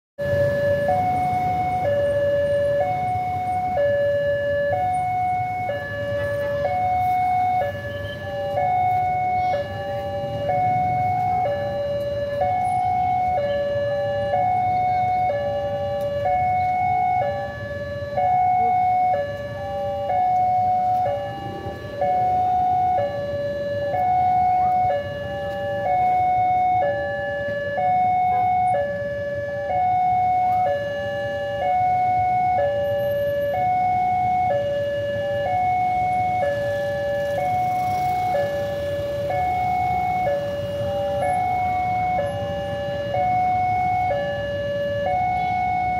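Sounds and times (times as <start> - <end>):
two-tone level-crossing alarm: 0.2 - 45.9.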